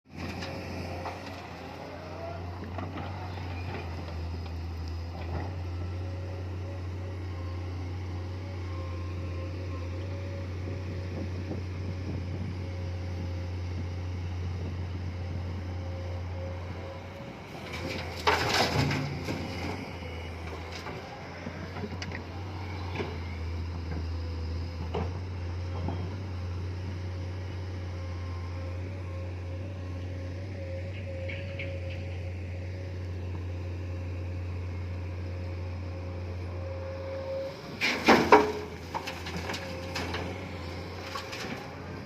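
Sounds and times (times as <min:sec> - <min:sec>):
excavator diesel engine droning: 0:00.1 - 0:42.0.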